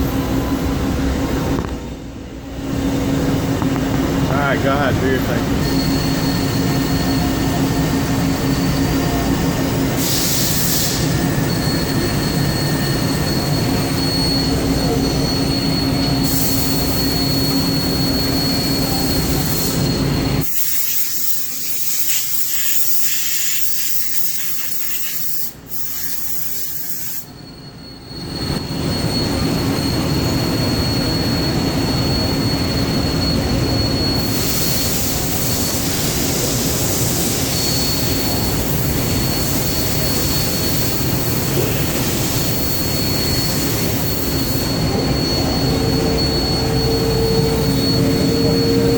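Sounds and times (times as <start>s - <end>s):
high machine whine: 0.0s - 48.9s
lathe machine running: 2.4s - 20.7s, 27.6s - 48.9s.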